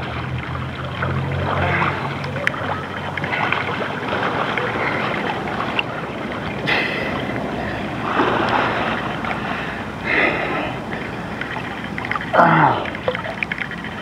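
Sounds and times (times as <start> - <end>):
wind buffeting microphone: 0.0 - 12.4
rush of water: 0.0 - 14.0
water sloshing and splashing: 0.0 - 14.0.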